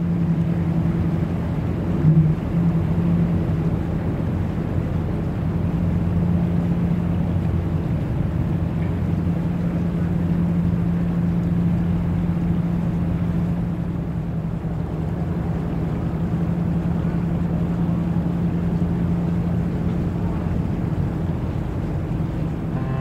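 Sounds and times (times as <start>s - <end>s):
ship engine drone: 0.0s - 23.0s.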